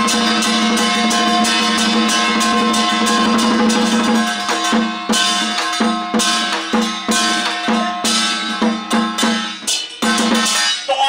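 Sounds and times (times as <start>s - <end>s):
drums and gongs striking: 0.0s - 11.0s.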